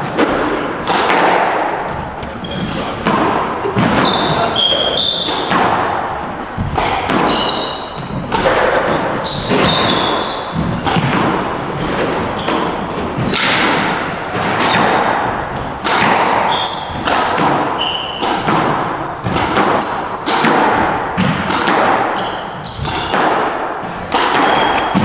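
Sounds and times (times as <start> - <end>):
shoes squeaking on wooden floor: 0.0 - 13.4, 14.3 - 20.5, 22.2 - 23.1, 23.9 - 25.0
squash ball thudding: 0.0 - 25.0.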